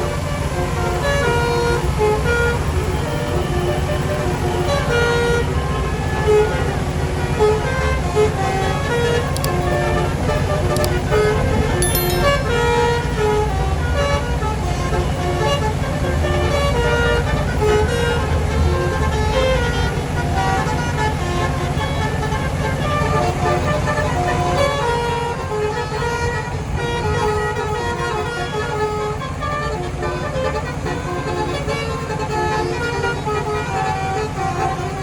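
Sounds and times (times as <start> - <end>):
bus horn playing a melody: 0.0 - 11.7, 12.5 - 35.0
bus engine rumble: 0.0 - 11.8, 12.4 - 35.0.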